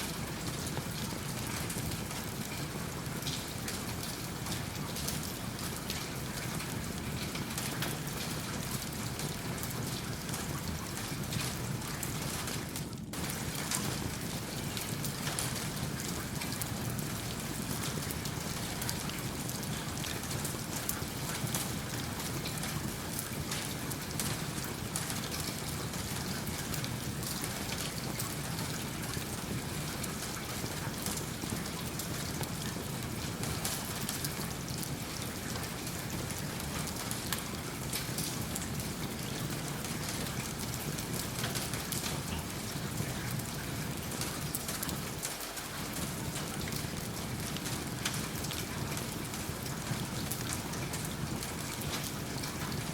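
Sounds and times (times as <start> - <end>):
rain falling: 0.0 - 52.9
wood fire crackling: 5.8 - 52.9.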